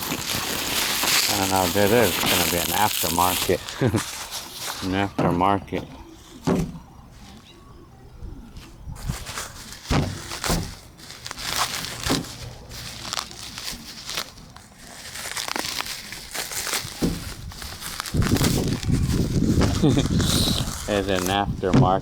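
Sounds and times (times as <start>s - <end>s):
packaging crinkling: 0.0s - 7.7s, 8.5s - 22.0s.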